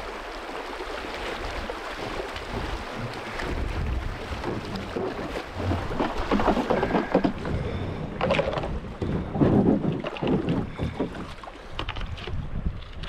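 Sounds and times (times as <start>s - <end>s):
boat and paddle knocks and swishes: 0.0s - 13.0s
water rushing around hull: 0.0s - 13.0s.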